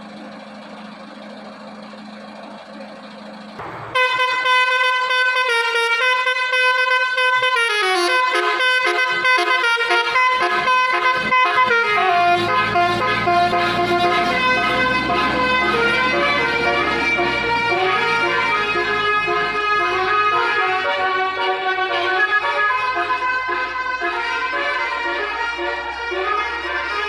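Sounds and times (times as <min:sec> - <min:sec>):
musical air horn playing a tune: 0:04.0 - 0:27.0.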